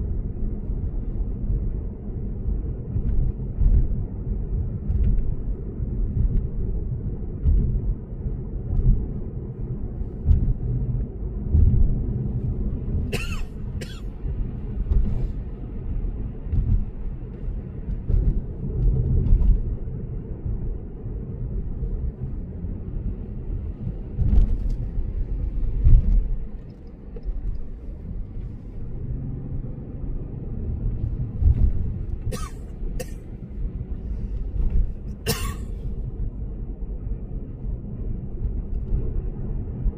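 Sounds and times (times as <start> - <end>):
road and tyre rumble in car: 0.0 - 39.9.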